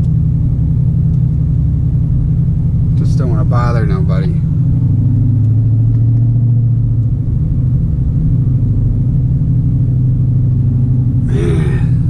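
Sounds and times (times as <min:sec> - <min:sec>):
car engine droning at low revs: 0:00.0 - 0:12.0.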